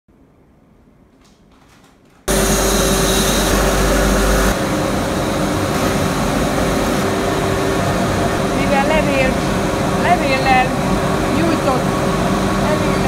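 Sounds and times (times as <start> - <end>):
factory machinery humming: 2.3 - 13.0.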